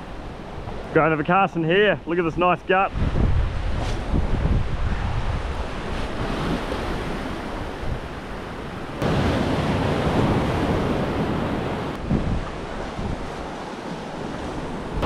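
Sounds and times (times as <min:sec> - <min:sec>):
wind buffeting microphone: 0:02.9 - 0:15.0.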